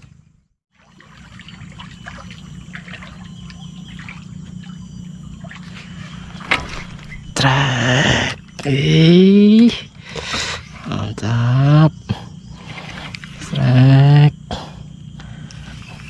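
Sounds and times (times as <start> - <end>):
water lapping and trickling: 0.0 - 8.8, 9.4 - 11.2, 11.9 - 13.7, 14.4 - 16.0
steady low hum: 0.0 - 16.0.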